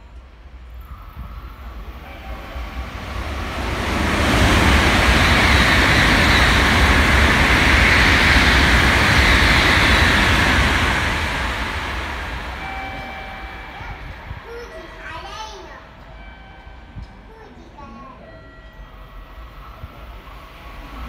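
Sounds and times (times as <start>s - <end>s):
high speed train passing: 0.0s - 21.0s.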